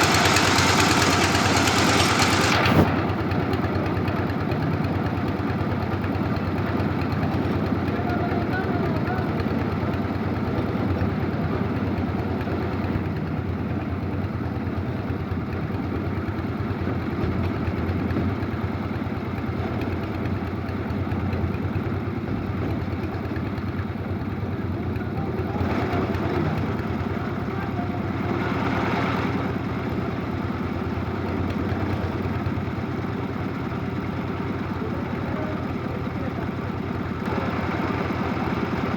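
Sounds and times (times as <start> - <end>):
concrete mixer engine running: 0.0 - 38.9.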